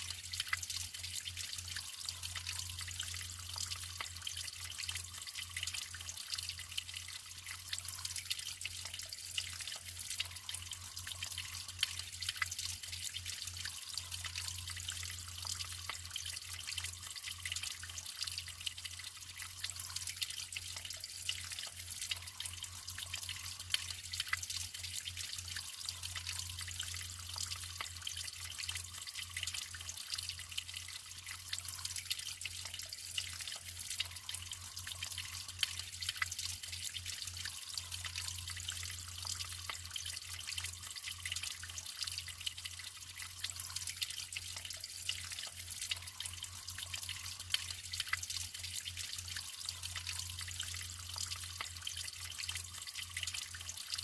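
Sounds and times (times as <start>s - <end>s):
water drips and plops: 0.0s - 54.0s
water trickling and splashing: 0.0s - 54.0s.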